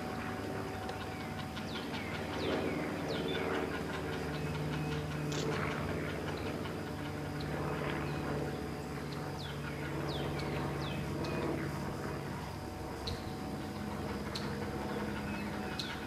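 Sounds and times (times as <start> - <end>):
steady low hum: 0.0 - 16.0
young herons clacking chatter: 0.0 - 16.0.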